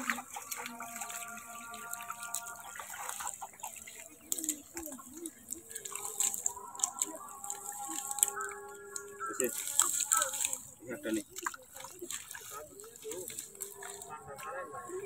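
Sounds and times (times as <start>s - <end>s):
water and mud splashing: 0.0s - 15.0s.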